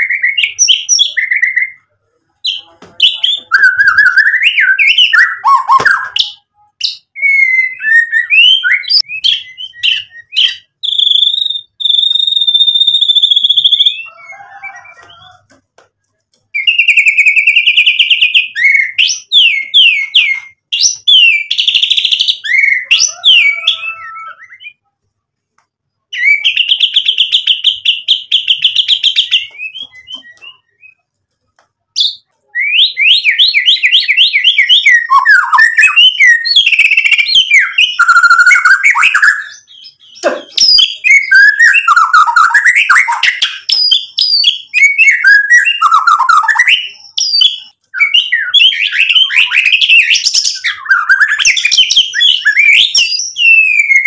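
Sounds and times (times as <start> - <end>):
bird singing whistled notes: 2.6 - 15.4, 16.6 - 24.9, 26.1 - 31.0, 32.0 - 54.0.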